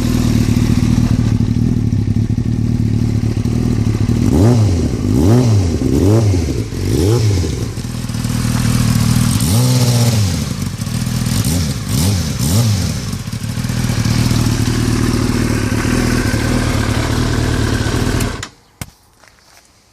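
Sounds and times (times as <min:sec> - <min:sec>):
motorcycle engine idling: 0:00.0 - 0:18.5
motorcycle engine revving: 0:00.0 - 0:18.6.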